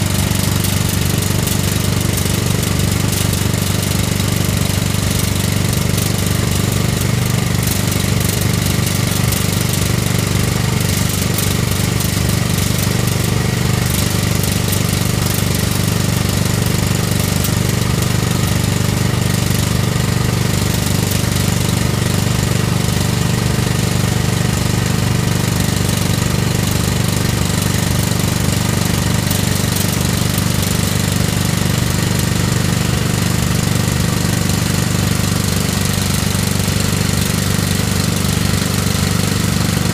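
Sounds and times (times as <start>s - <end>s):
excavator engine running: 0.0s - 39.9s
hydraulic rock drill hammering: 0.0s - 39.9s.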